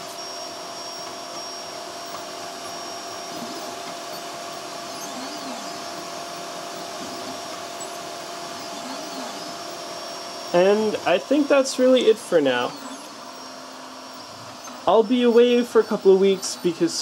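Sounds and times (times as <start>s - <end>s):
printer fans whirring: 0.0s - 17.0s
stepper motors whining: 0.0s - 17.0s.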